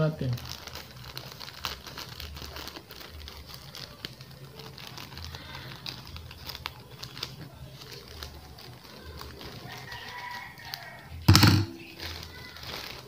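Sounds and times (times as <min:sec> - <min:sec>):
plastic crinkling: 0:00.0 - 0:13.0.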